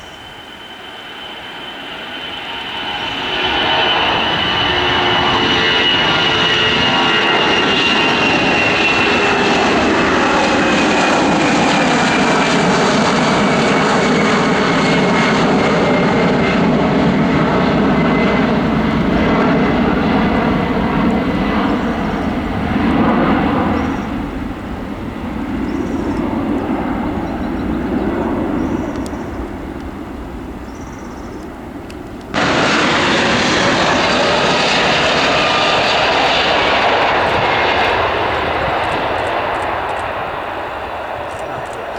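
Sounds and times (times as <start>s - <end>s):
jet aircraft engines passing: 0.0s - 41.9s.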